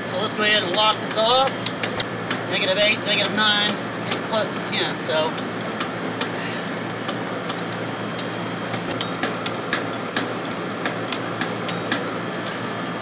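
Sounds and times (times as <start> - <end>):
compressor humming: 0.0 - 13.0.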